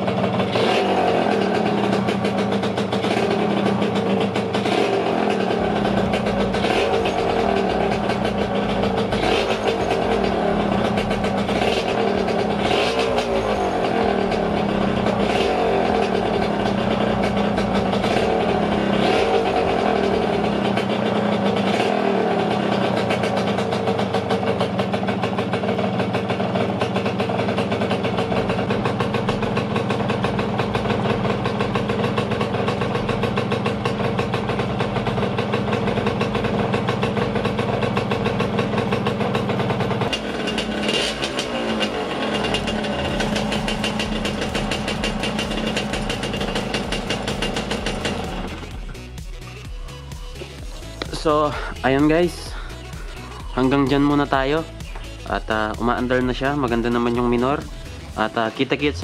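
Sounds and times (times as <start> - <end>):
leaky exhaust noise: 0.0 - 59.0
two-stroke engine revving and idling: 0.0 - 59.0.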